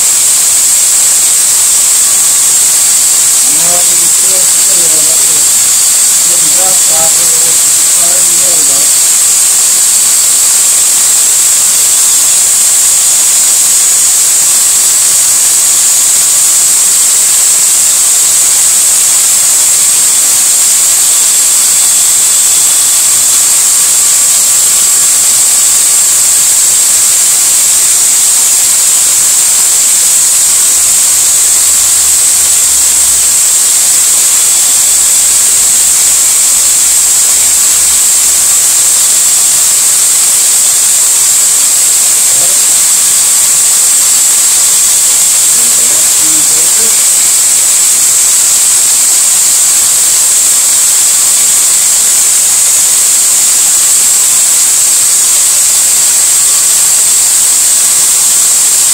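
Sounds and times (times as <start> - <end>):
electric drill whining: 0.0 - 48.6.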